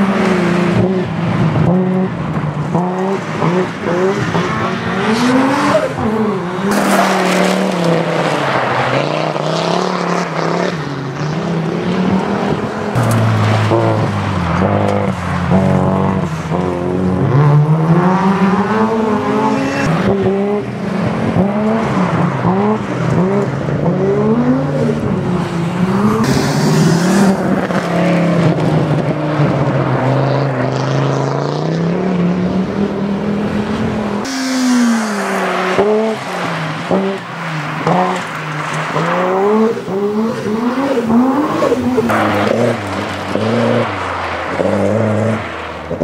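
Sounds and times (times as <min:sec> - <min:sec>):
rally car engines revving: 0:00.0 - 0:46.0.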